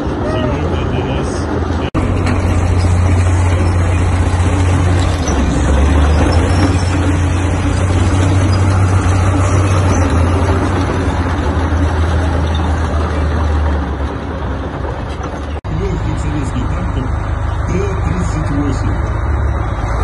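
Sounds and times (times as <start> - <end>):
tank engine driving past: 0.0 - 20.0.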